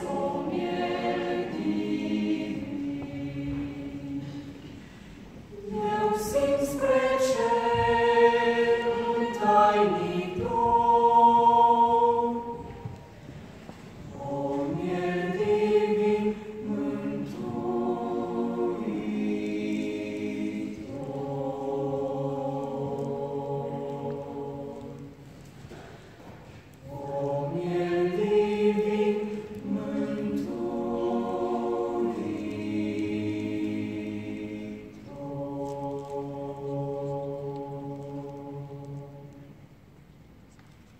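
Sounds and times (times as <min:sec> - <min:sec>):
mixed choir singing unaccompanied: 0:00.0 - 0:25.9, 0:26.8 - 0:39.8.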